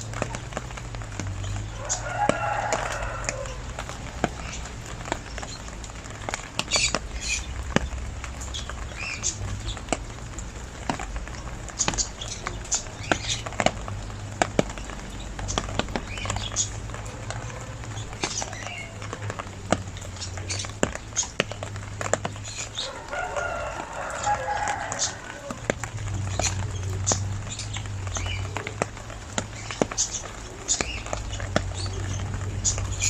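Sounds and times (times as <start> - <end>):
rain drops pattering: 0.0 - 33.0.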